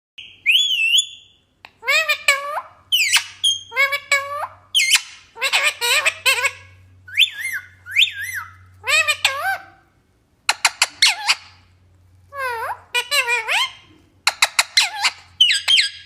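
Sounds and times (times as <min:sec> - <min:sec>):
parrot squawking: 0:00.2 - 0:11.7, 0:12.3 - 0:16.0.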